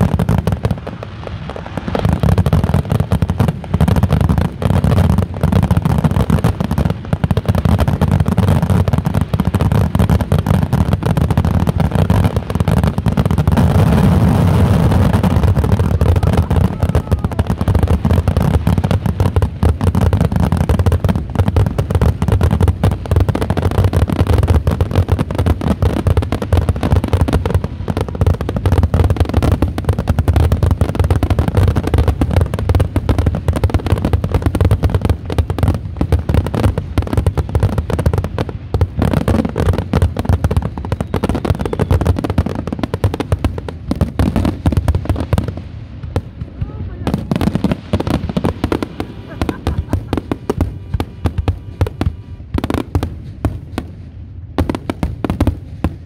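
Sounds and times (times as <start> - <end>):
dense crackling: 0.0 - 23.7, 24.3 - 53.7.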